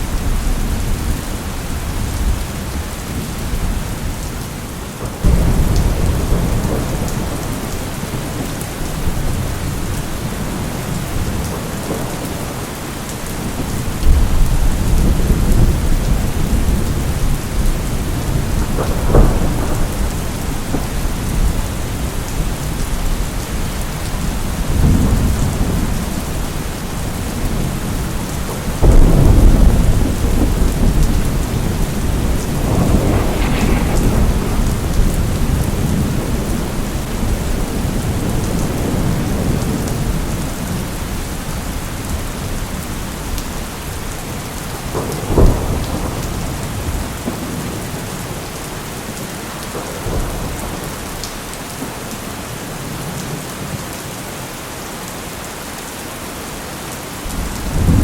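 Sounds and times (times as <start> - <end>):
steady rain falling: 0.0 - 58.0
low thunder rumbling: 5.0 - 51.2, 57.3 - 58.0.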